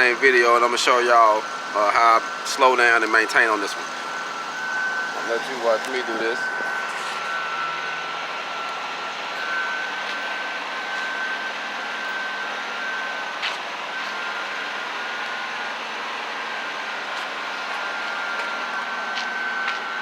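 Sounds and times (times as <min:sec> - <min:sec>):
high wavering whine: 0:00.0 - 0:20.0
machinery drone: 0:00.0 - 0:20.0.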